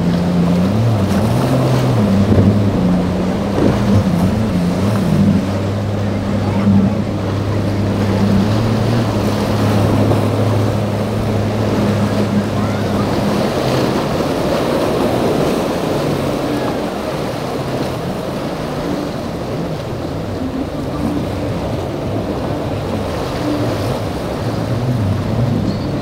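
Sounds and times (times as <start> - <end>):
breaking waves: 0.0 - 26.0
outboard engine running: 0.0 - 26.0
wind buffeting microphone: 0.0 - 26.0.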